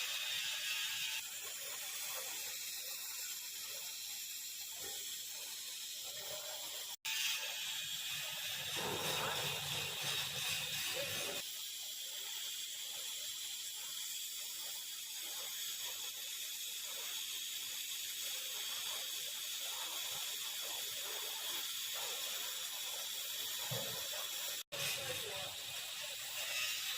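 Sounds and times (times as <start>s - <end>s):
welding arc hissing: 0.0s - 26.9s.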